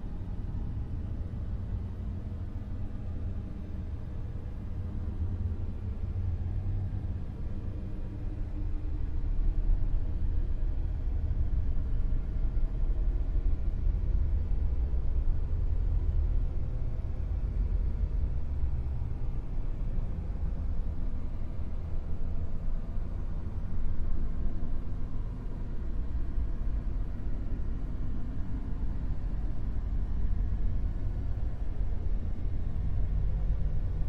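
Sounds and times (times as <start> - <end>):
low rumbling noise drone: 0.0 - 34.0.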